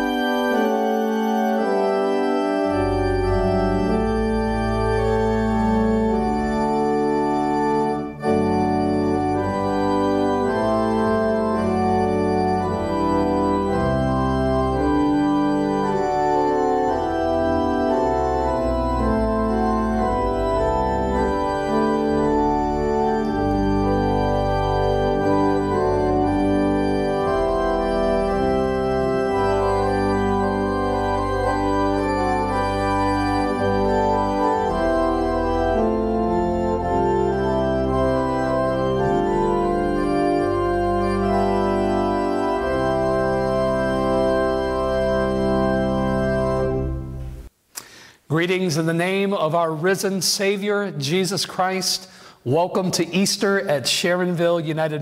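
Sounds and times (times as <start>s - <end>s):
church organ sustained chords: 0.0s - 47.5s
deep organ pedal bass: 0.0s - 47.5s.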